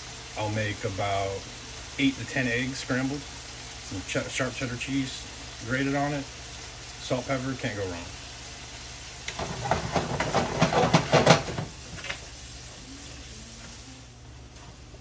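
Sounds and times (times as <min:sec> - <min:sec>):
steaks sizzling in a skillet: 0:00.0 - 0:15.0.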